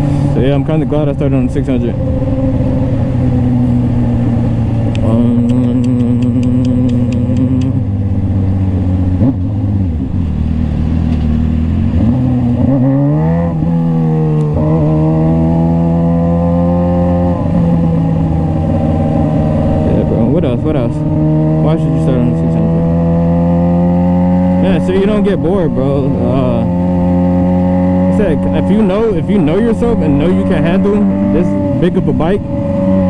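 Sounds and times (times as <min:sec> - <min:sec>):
motorcycle engine drone: 0:00.0 - 0:33.0.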